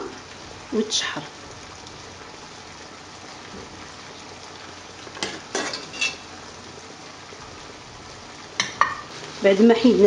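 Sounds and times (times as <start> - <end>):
meat sauce sizzling: 0.0 - 10.0.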